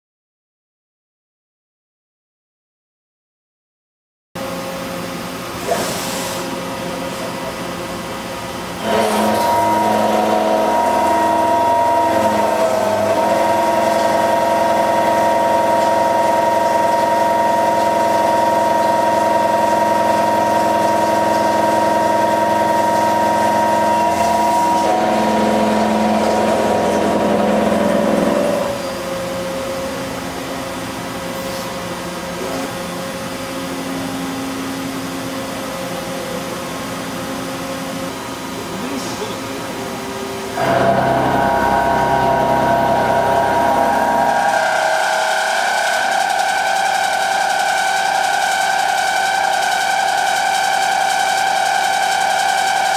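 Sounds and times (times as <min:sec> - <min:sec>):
milling machine running hum: 0:04.4 - 0:52.9
milling cutter whine: 0:05.6 - 0:52.9.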